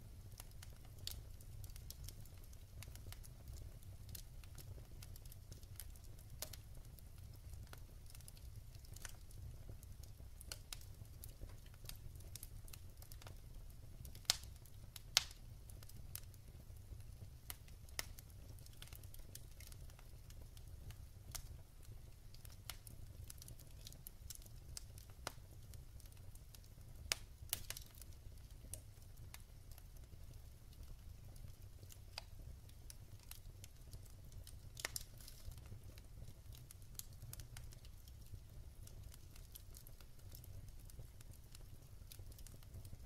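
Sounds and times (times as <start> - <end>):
low rumble of flames: 0.0 - 43.0
wood fire crackling: 0.0 - 43.0.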